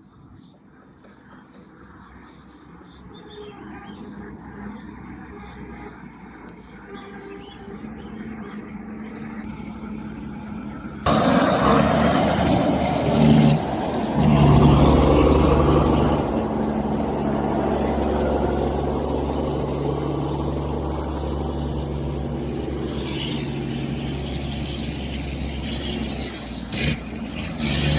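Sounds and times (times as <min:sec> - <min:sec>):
vehicle engine running loudly: 0:04.0 - 0:27.9.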